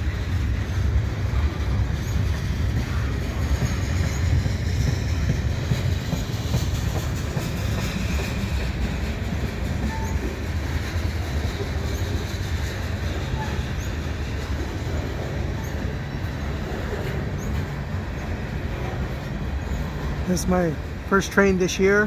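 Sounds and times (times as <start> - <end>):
freight train wheels rumbling: 0.0 - 22.0
wheel squeals: 1.5 - 20.0.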